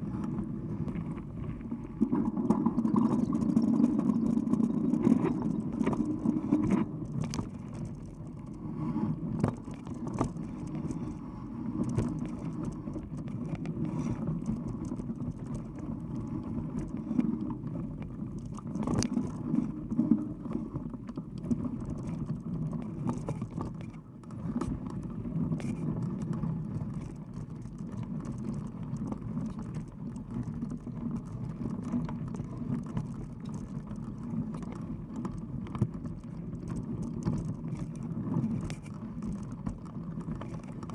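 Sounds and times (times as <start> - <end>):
bike clicks and rattles: 0.2 - 40.9.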